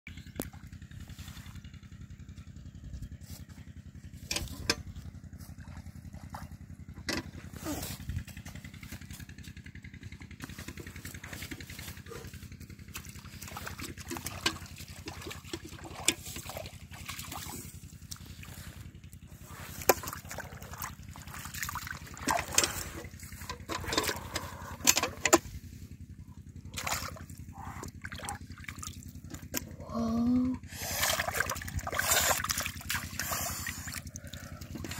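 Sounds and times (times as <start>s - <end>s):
muddy water splashing: 0.1s - 34.9s.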